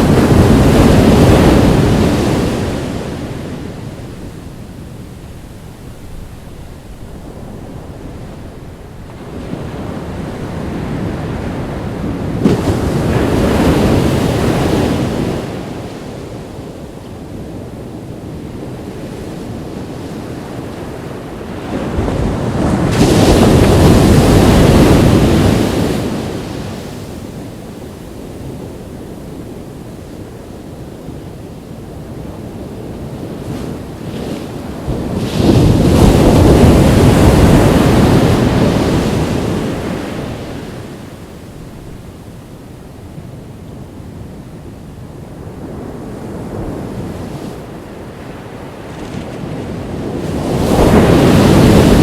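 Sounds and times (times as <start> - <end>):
waves crashing on a beach: 0.0 - 52.0
wind on the microphone: 0.0 - 52.0.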